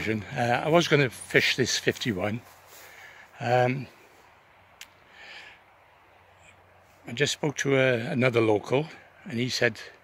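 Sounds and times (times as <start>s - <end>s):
faint background hiss: 0.0s - 10.0s
soft breathy hiss: 0.0s - 10.0s.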